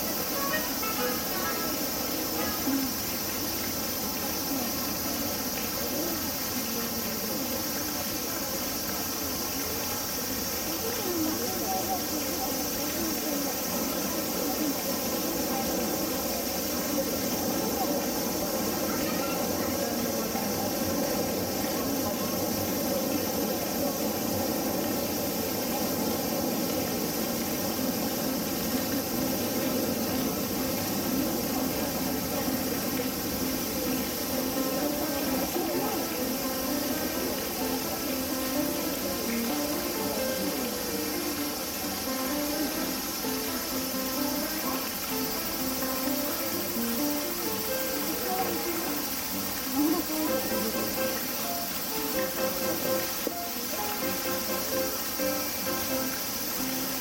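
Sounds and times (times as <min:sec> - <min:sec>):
distant voices murmuring: 0:00.0 - 0:57.0
high-pitched insect chorus: 0:00.0 - 0:57.0
outdoor background hum and hiss: 0:00.0 - 0:57.0.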